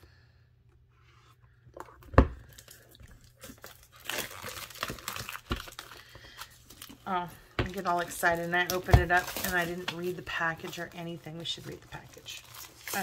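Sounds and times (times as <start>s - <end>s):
wrapping crinkling and tearing: 2.4s - 13.0s.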